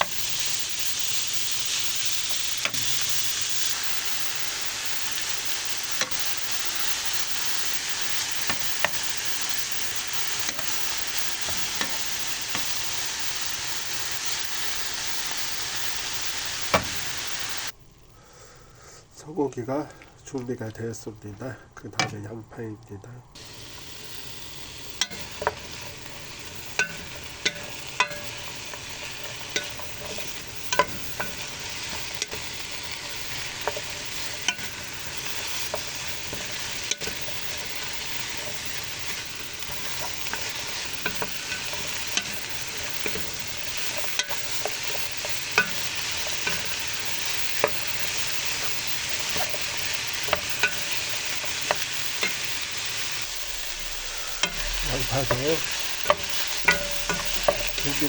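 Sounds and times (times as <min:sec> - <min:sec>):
onions sizzling in pan: 0:00.0 - 0:58.0.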